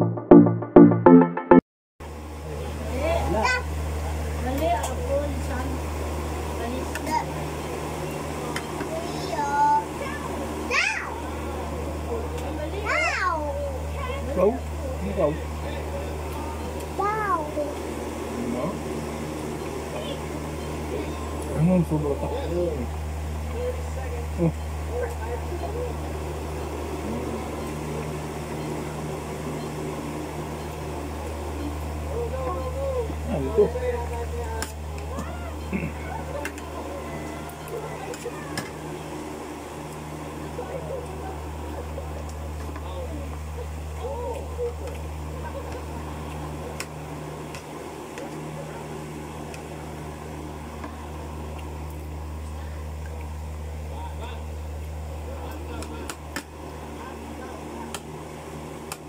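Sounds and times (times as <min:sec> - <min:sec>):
low electrical hum: 0:02.0 - 0:59.0.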